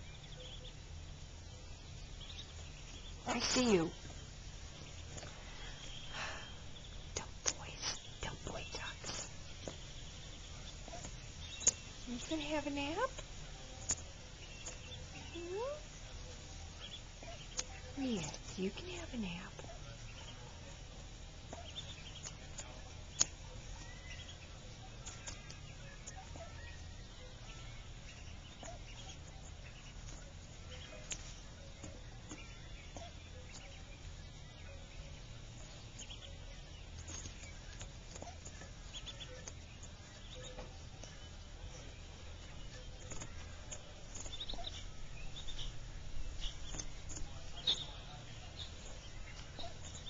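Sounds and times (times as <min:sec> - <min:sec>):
ducklings pecking at feed pellets: 0:00.0 - 0:50.0
ducklings peeping: 0:00.0 - 0:50.0
steady low hum: 0:00.0 - 0:50.0.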